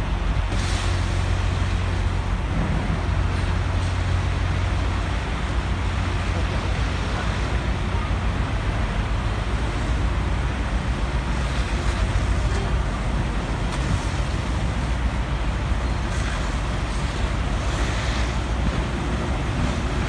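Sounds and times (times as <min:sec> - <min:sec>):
diesel engine running pump: 0:00.0 - 0:20.0
rushing water noise: 0:00.0 - 0:20.0.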